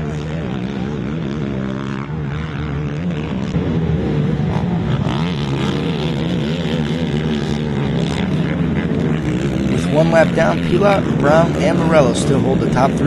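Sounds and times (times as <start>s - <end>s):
racing quad engines revving: 0.0s - 13.0s.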